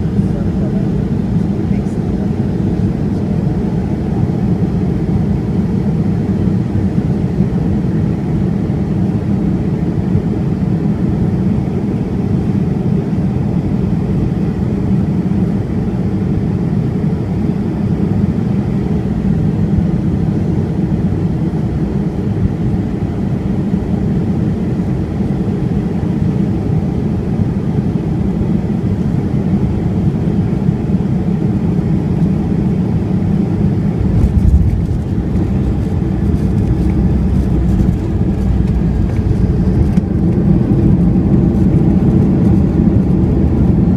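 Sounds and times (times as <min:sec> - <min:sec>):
aircraft cabin engine noise: 0:00.0 - 0:43.9.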